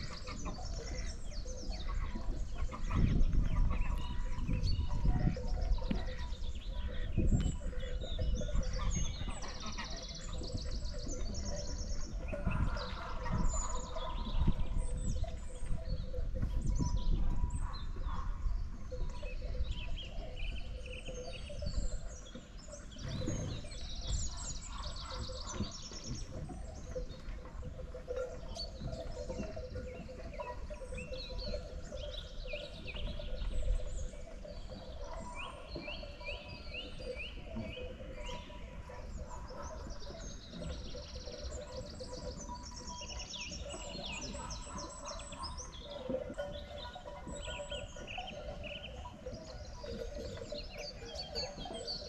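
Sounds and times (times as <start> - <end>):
small birds chirping and trilling: 0.0 - 52.0.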